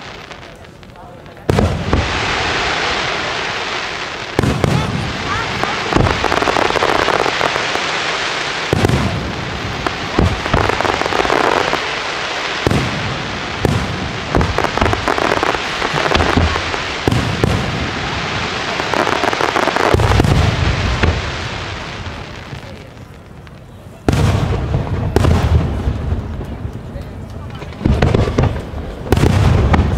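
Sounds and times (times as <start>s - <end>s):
deep firework booms: 0.0s - 23.4s, 24.0s - 27.0s, 27.6s - 29.9s
fireworks crackling: 0.0s - 29.9s.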